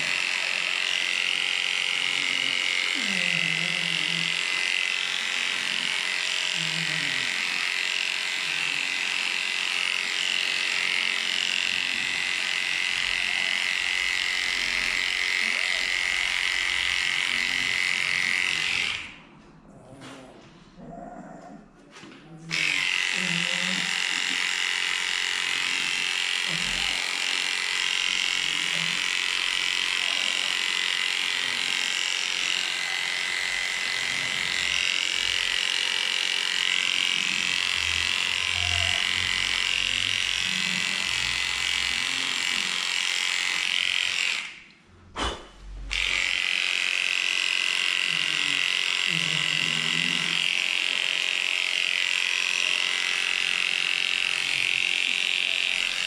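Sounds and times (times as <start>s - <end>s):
electric clipper running: 0.0s - 19.3s, 22.5s - 44.8s, 45.8s - 56.0s.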